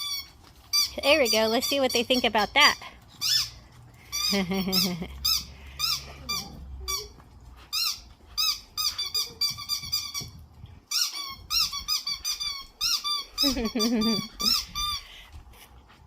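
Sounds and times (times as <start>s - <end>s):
squeaky dog toy squeaking: 0.0s - 15.1s.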